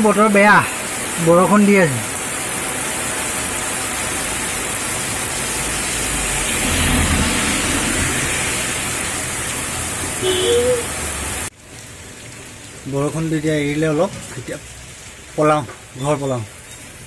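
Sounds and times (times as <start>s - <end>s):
heavy rain on road and roofs: 0.0s - 17.0s.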